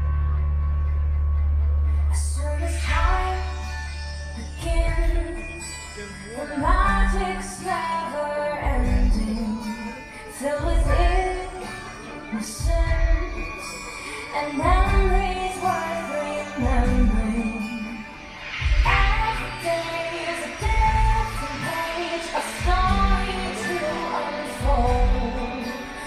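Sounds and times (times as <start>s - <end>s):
woman singing show music: 1.9s - 26.0s.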